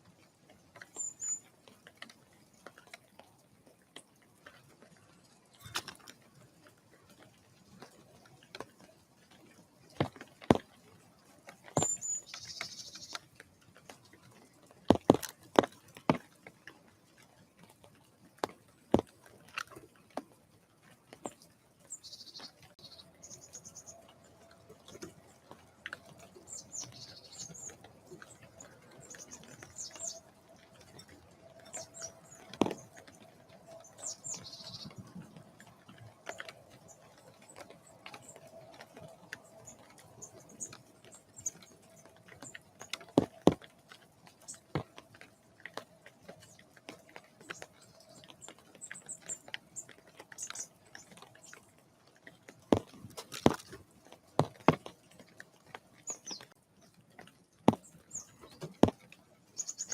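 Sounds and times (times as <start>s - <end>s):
small birds chirping: 0.3s - 3.4s, 4.4s - 16.3s, 20.8s - 59.9s.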